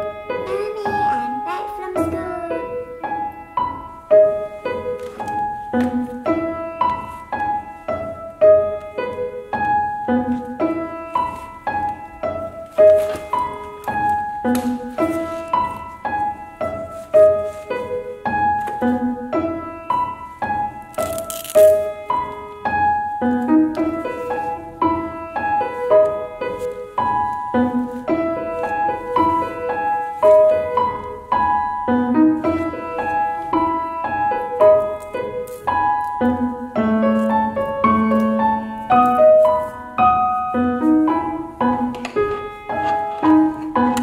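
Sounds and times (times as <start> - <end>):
light piano melody: 0.0 - 44.0.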